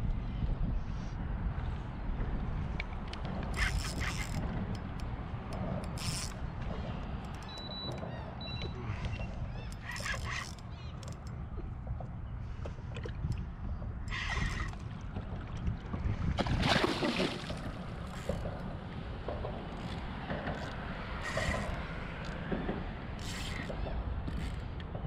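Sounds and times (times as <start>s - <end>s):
wind rumbling on microphone: 0.0s - 25.0s
water sloshing around kayak: 3.4s - 24.6s.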